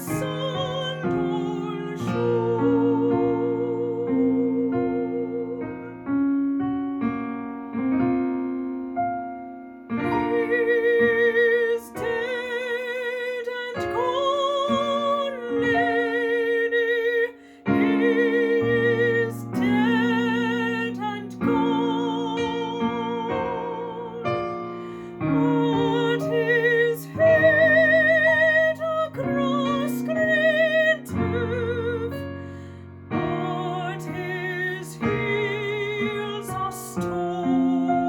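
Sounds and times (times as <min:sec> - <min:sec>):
operatic singing: 0:00.0 - 0:06.2, 0:10.1 - 0:38.0
piano accompaniment: 0:00.0 - 0:38.0.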